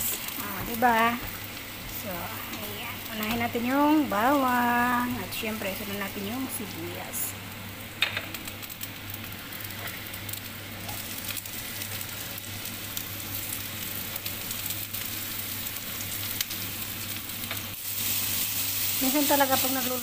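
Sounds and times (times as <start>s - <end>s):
garlic and onion sizzling in oil: 0.0s - 20.0s.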